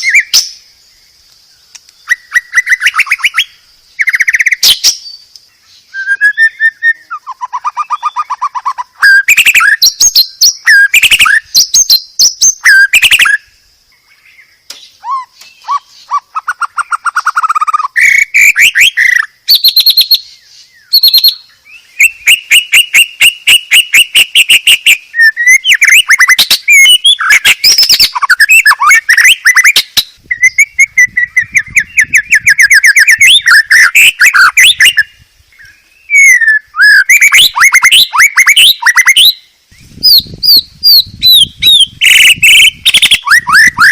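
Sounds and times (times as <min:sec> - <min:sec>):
bird singing trills and whistles: 0:00.0 - 0:43.9.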